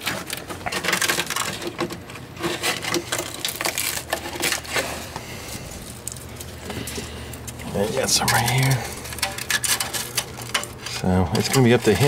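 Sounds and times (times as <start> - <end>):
rusted metal crunching and breaking: 0.0 - 5.1, 5.7 - 12.0.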